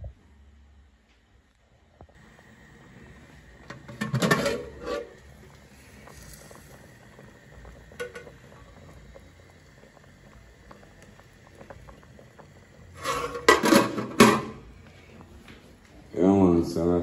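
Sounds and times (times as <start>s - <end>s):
pot bubbling: 2.1s - 16.3s.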